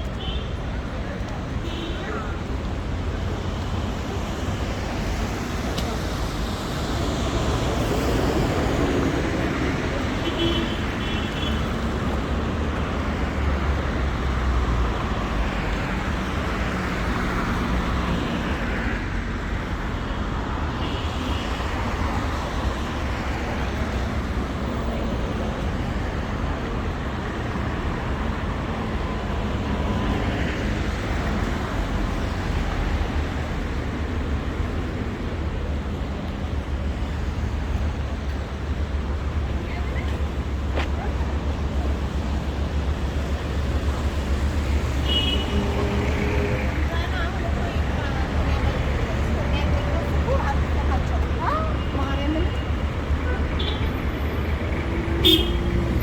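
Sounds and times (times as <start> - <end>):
low traffic rumble: 0.0 - 56.0
vehicles passing: 0.0 - 56.0.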